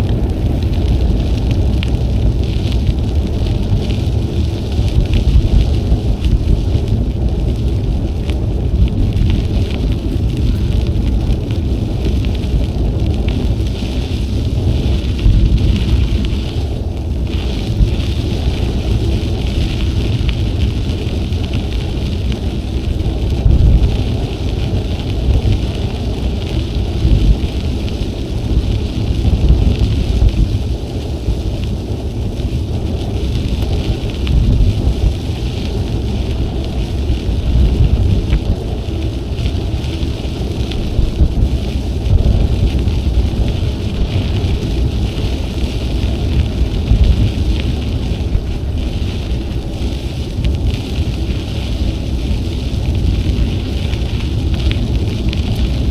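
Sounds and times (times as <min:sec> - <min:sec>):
riding noise hiss: 0:00.0 - 0:55.9
wind buffeting microphone: 0:00.0 - 0:55.9.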